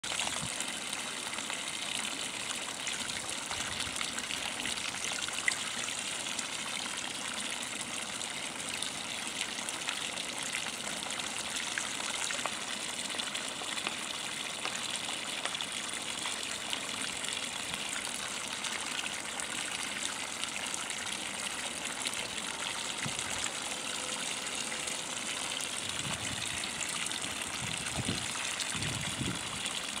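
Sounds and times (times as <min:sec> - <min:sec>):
fountain water splashing into pool: 0:00.0 - 0:30.0.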